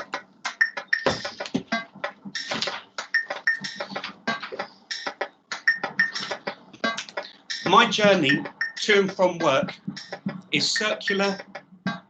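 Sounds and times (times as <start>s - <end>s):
rapid irregular clicks and ticks: 0.0s - 12.0s.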